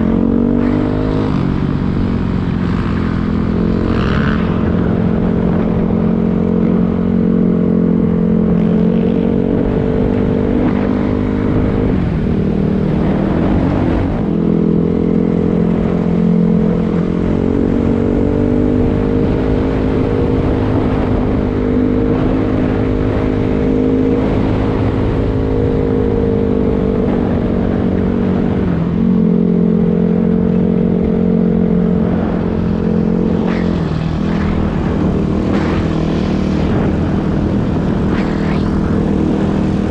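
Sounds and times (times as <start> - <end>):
dirt bike engine running: 0.0 - 25.7, 26.5 - 39.9.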